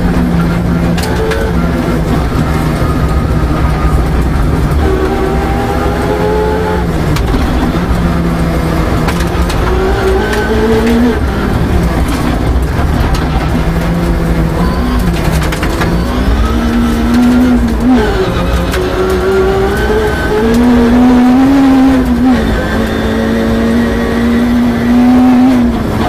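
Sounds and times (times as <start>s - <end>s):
car engine revving through gears: 0.0s - 26.0s.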